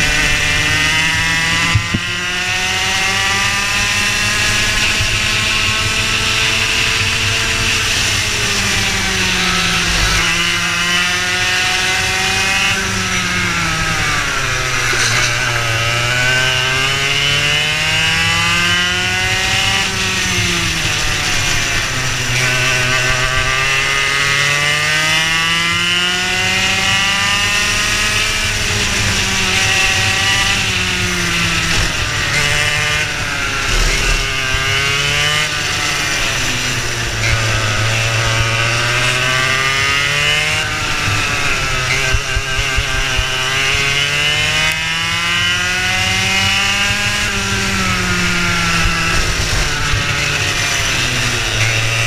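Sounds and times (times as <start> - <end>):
go-kart engine revving: 0.0 - 52.0.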